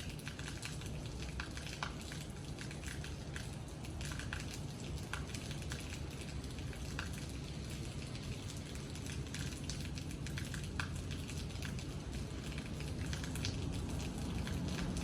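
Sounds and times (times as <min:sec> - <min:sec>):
steady rain falling: 0:00.0 - 0:15.0
drops ticking on a surface: 0:00.1 - 0:15.0.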